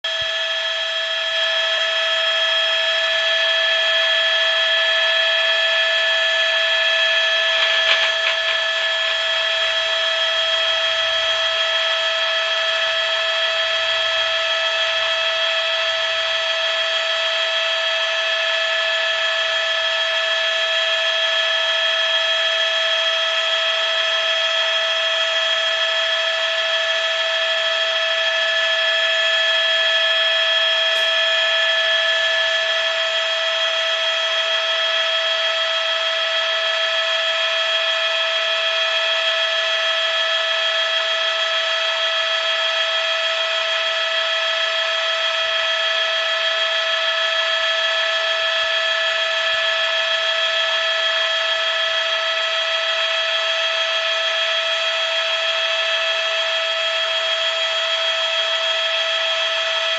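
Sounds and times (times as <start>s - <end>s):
high motor-like whine: 0.1s - 59.9s.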